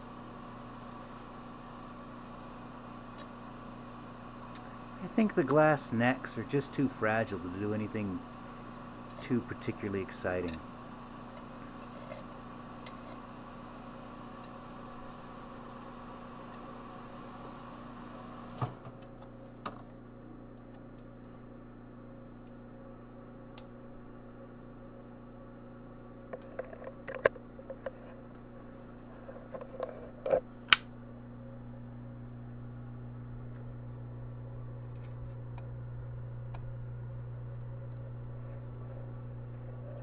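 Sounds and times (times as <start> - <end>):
microwave oven humming: 0.0 - 40.0.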